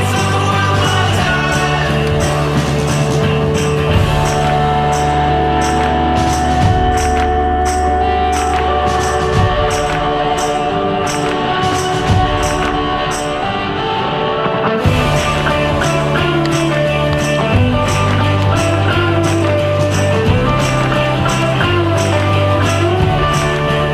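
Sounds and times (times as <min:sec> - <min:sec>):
tambourine-like percussive hits: 0:00.0 - 0:13.7, 0:14.8 - 0:23.9.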